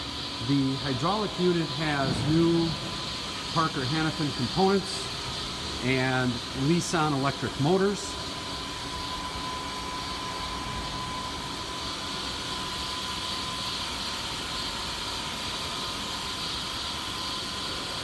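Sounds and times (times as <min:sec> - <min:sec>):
high steady whine: 0:00.0 - 0:18.0
hydraulic unit hum and hiss: 0:00.0 - 0:18.0.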